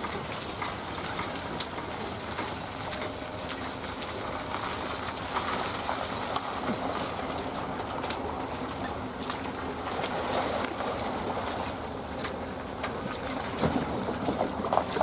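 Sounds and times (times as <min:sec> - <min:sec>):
water rushing past boat: 0:00.0 - 0:15.0.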